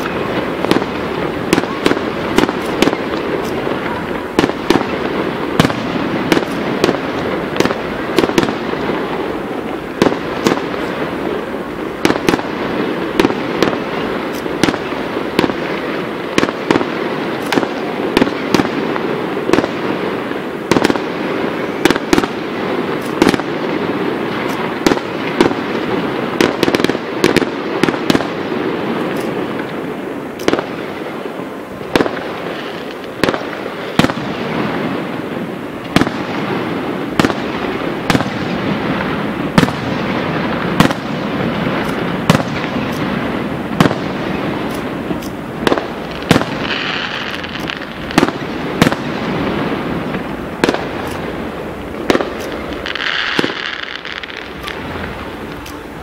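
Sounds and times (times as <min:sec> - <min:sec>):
fireworks crackle and rumble: 0:00.0 - 0:56.0
fireworks shells exploding: 0:00.0 - 0:56.0.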